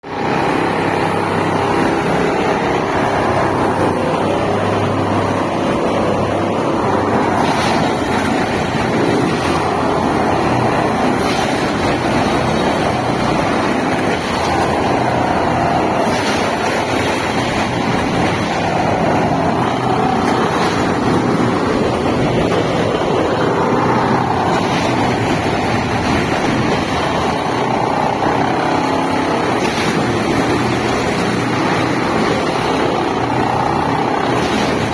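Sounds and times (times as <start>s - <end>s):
track machine engine and hydraulics: 0.0s - 34.9s.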